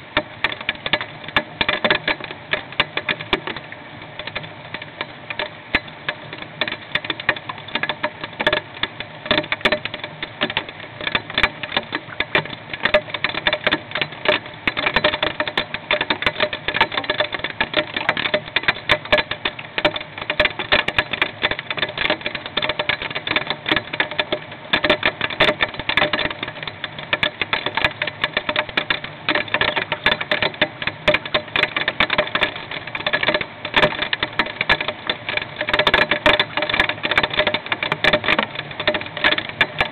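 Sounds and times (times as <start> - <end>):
hail ticking on wooden box: 0.0 - 39.9.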